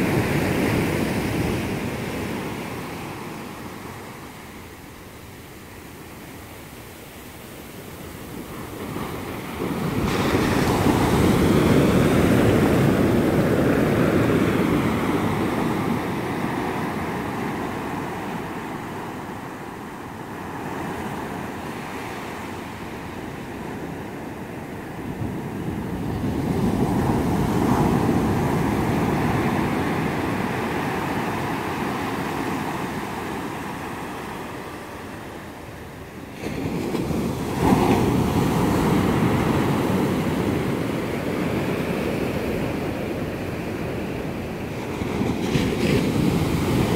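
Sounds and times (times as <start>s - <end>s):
ocean waves breaking on beach: 0.0s - 46.9s.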